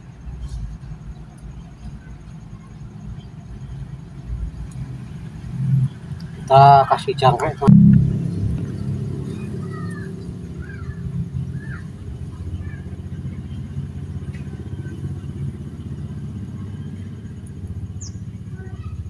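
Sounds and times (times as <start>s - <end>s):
low motor engine rumble: 0.0s - 19.0s.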